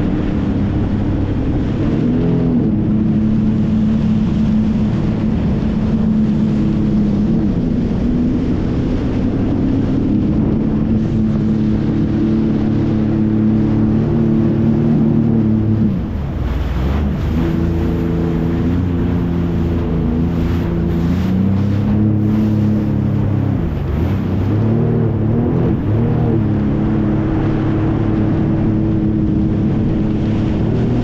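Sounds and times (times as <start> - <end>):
jet ski engine drone: 0.0 - 31.0.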